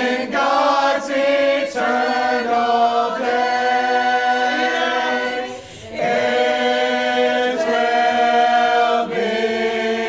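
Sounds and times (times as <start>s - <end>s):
group singing a hymn in harmony: 0.0s - 10.0s.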